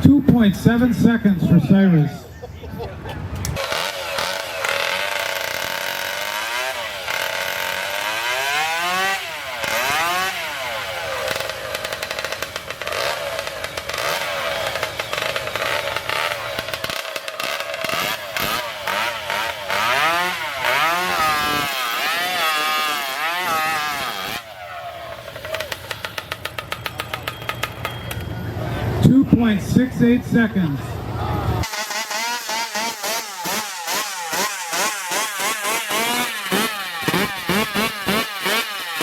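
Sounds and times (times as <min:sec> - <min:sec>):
chainsaw engines revving: 0:00.0 - 0:39.0.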